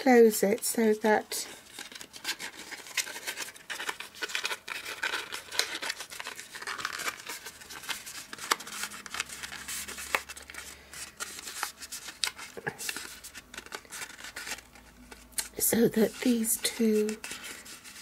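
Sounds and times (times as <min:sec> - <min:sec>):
cardstock rustling and snapping: 0:01.6 - 0:18.0.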